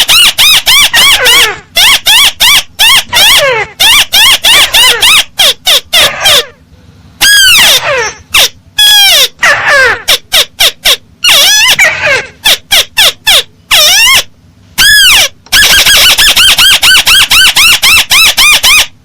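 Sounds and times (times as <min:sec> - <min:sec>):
crake calling: 0:00.0 - 0:06.6, 0:07.2 - 0:19.0.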